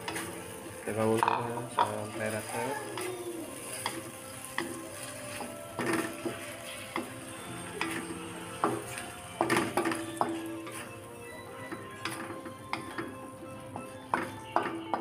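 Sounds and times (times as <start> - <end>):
sauce sizzling: 0.0 - 15.0
spatula scraping and knocking wok: 0.0 - 15.0.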